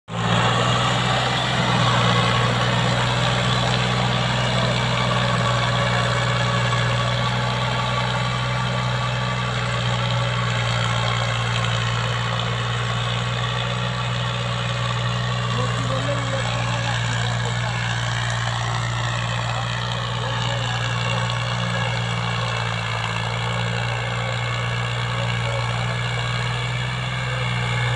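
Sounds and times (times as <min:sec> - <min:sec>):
tractor diesel engine under load: 0:00.0 - 0:27.9.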